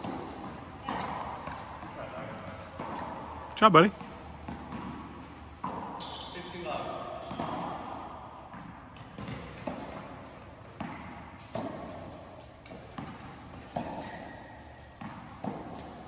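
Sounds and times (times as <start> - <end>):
tennis balls bouncing on court: 0.0 - 16.0
tennis balls struck by rackets: 0.0 - 16.0.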